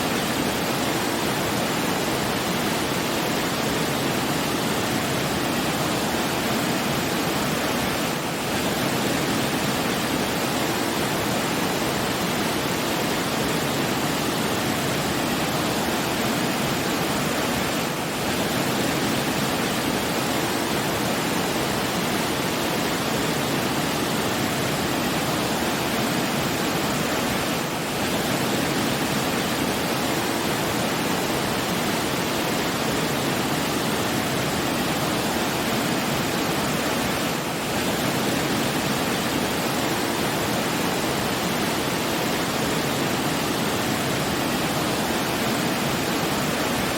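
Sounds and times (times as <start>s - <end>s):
running water rushing: 0.0s - 46.9s.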